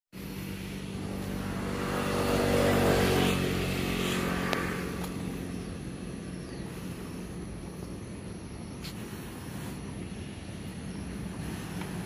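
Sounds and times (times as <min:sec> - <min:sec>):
vehicle passing on road: 0:00.2 - 0:12.0.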